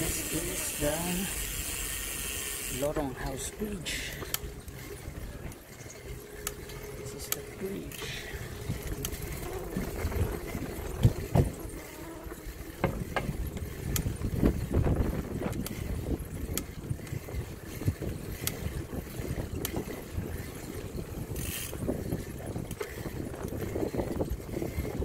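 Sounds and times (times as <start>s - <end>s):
bicycle rumbling over bridge: 0.0s - 25.0s
bike rattling clicks and knocks: 0.0s - 25.0s.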